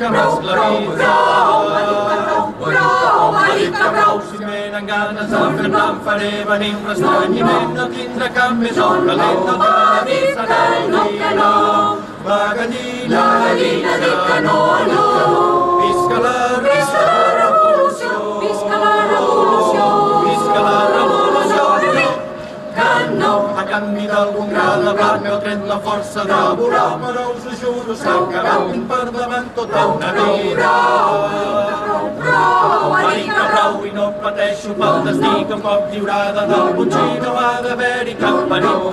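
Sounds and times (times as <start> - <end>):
crowd singing together: 0.0 - 38.9.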